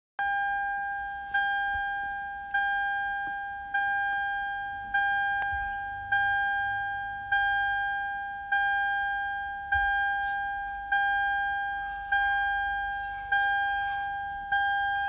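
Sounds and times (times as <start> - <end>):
car warning chime dings: 0.2 - 15.0.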